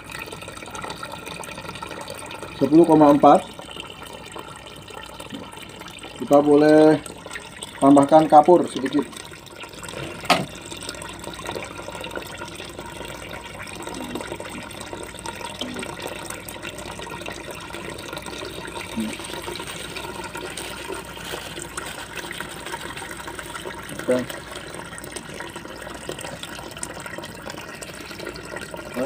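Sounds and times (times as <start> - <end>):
liquid running into a bucket: 0.0 - 29.0.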